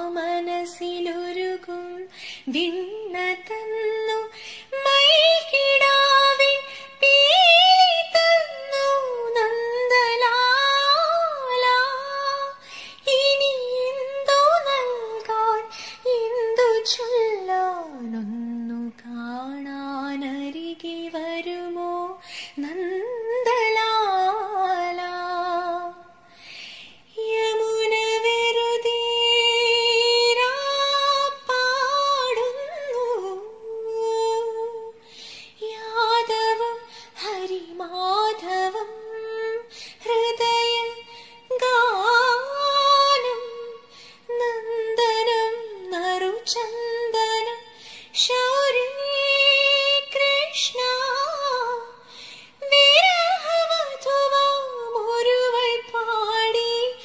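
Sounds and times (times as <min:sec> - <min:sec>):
woman singing: 0:00.0 - 0:26.2, 0:27.0 - 0:57.0.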